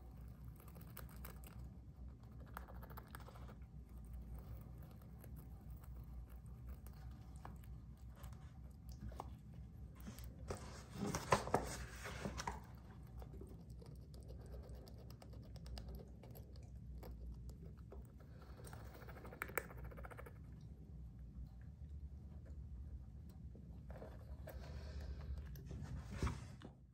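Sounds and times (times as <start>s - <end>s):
hamster gnawing and scratching: 0.0s - 20.6s, 22.3s - 26.8s.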